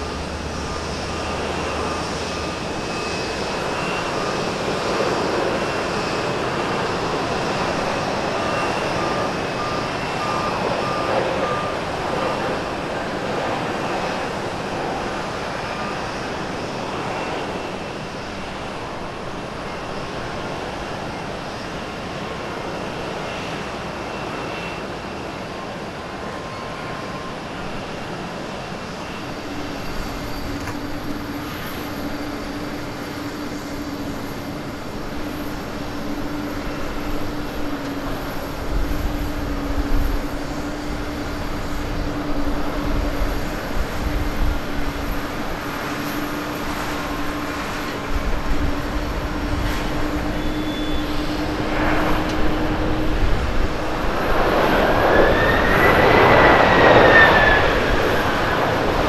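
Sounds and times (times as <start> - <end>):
jet engines roaring: 0.0 - 59.0
landing airplane low rumble: 0.0 - 59.0.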